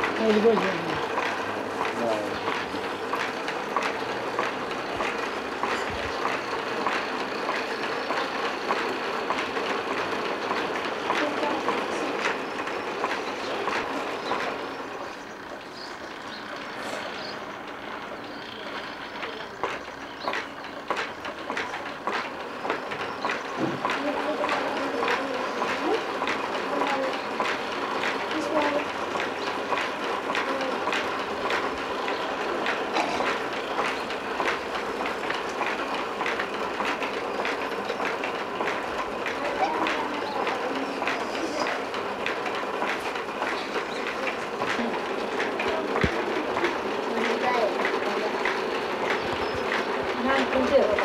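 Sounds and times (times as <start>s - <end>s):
soft steady rattle: 0.0s - 51.0s
spinning wheel clacking: 0.0s - 51.0s.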